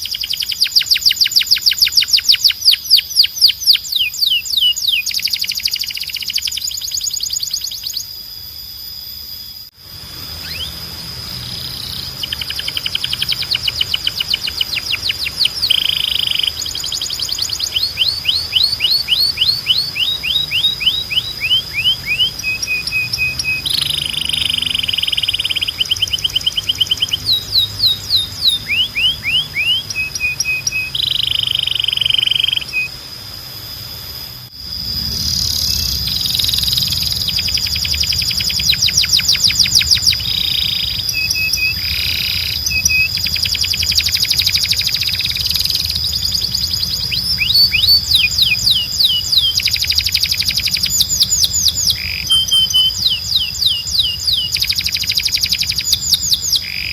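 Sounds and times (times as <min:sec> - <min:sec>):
canary singing trills: 0:00.0 - 0:08.5, 0:09.4 - 0:56.9
steady high tone: 0:09.1 - 0:55.8.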